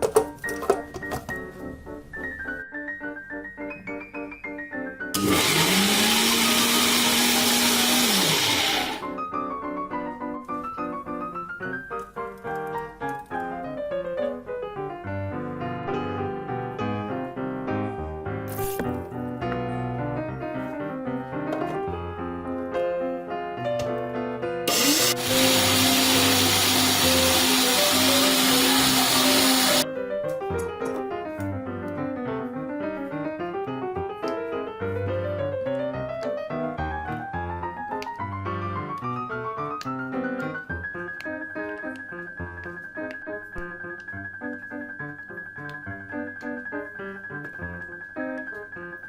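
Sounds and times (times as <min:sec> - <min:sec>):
piano melody over chords: 0:00.0 - 0:49.0.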